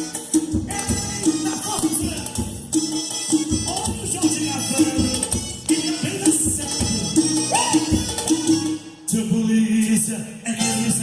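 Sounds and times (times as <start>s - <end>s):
latin dance music through car speakers: 0.0s - 11.0s.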